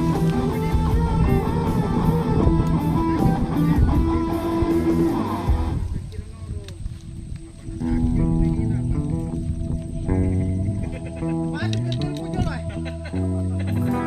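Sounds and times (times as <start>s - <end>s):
guitar background music: 0.0s - 14.0s.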